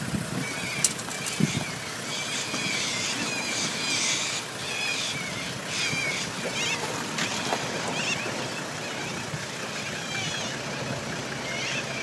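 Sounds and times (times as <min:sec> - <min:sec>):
low background rumble: 0:00.0 - 0:12.0
birds screeching: 0:00.2 - 0:12.0.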